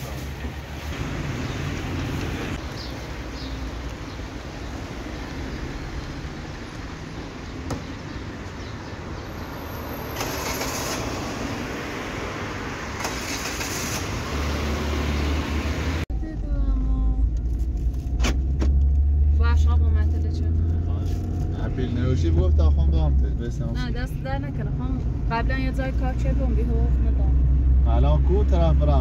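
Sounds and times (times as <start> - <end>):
vehicle road and engine rumble: 0.0 - 29.0.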